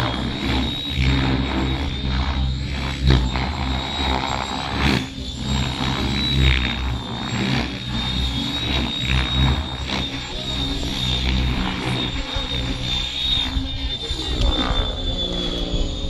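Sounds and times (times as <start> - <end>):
model helicopter whine: 0.0 - 16.0
rotor thrum: 0.0 - 16.0.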